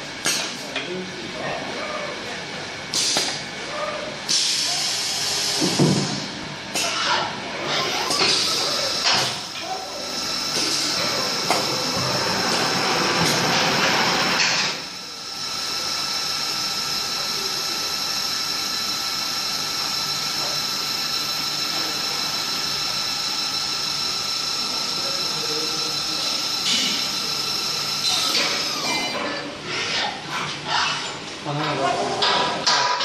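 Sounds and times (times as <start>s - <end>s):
milling machine whine: 1.2s - 30.2s.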